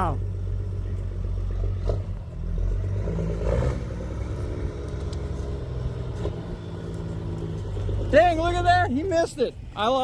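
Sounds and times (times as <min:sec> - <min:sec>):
vehicle engine at low speed: 0:00.0 - 0:10.0.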